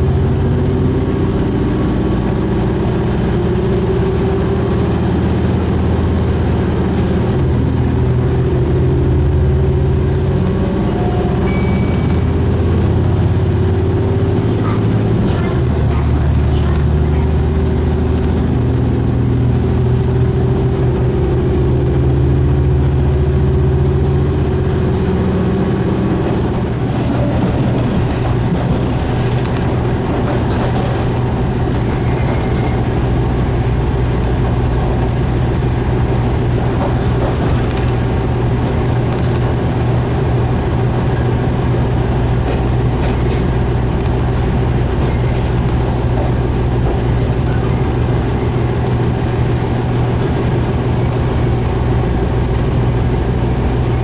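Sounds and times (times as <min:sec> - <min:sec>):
diesel railcar engine droning: 0:00.0 - 0:54.0
train rumble: 0:00.0 - 0:54.0.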